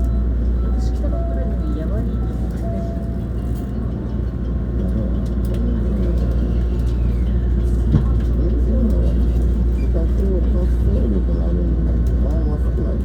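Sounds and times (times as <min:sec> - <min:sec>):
faint train whine: 0:00.0 - 0:13.0
train low rumble: 0:00.0 - 0:13.0.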